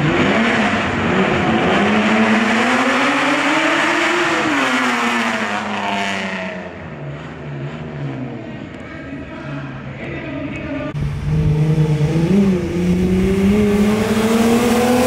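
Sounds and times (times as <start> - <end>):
car engine revving: 0.0 - 8.8, 10.9 - 15.0
road and tyre noise: 0.0 - 15.0.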